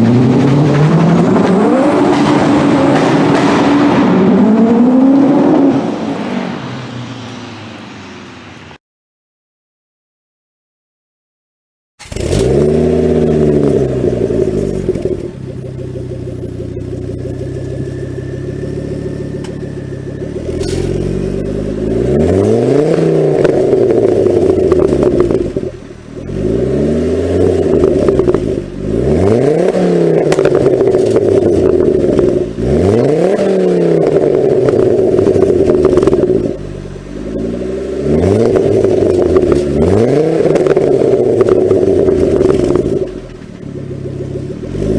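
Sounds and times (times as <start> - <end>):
car engine accelerating: 0.0 - 8.8, 12.0 - 44.9.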